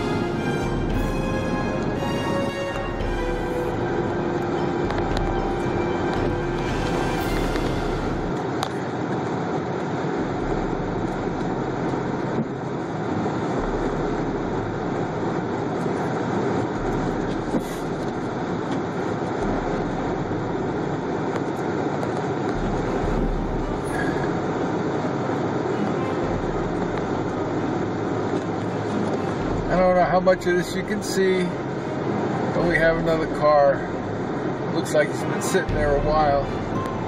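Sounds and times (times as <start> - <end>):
car tyres and engine rumbling: 0.0 - 37.0.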